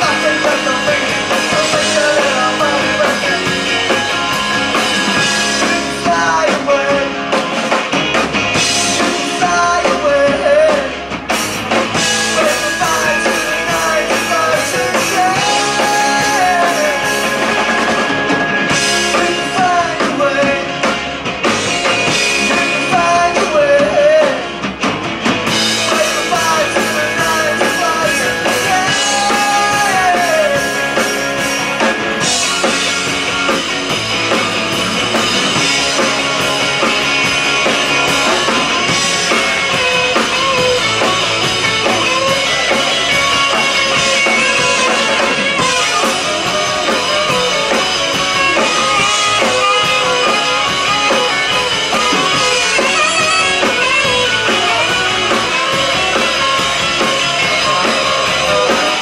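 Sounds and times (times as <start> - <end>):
drum kit: 0.0 - 59.0
rock band playing live: 0.0 - 59.0
bending melodic line: 8.5 - 24.2, 25.5 - 59.0.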